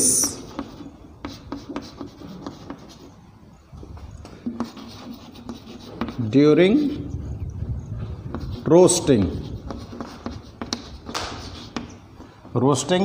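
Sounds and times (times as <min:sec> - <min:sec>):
chalk scratching on a chalkboard: 0:00.0 - 0:03.1, 0:04.4 - 0:07.1, 0:08.0 - 0:12.6.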